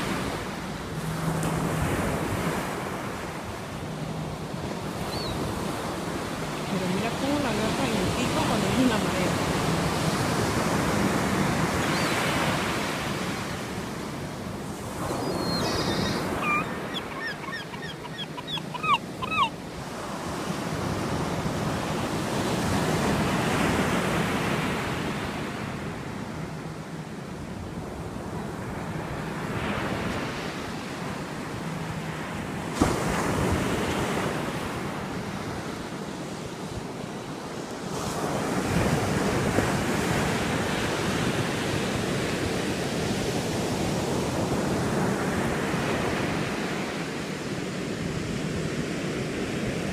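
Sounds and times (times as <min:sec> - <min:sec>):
ocean surf on beach: 0:00.0 - 0:49.9.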